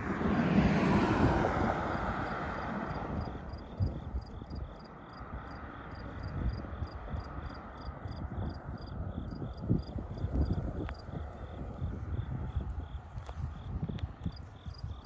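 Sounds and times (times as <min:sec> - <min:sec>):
passing car road noise: 0:00.0 - 0:15.0
wind gusts on microphone: 0:00.0 - 0:15.0
insects chirping: 0:00.7 - 0:15.0.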